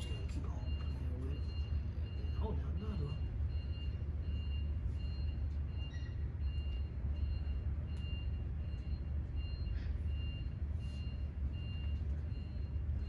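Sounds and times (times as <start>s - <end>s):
back-up alarm beeping: 0.0s - 13.0s.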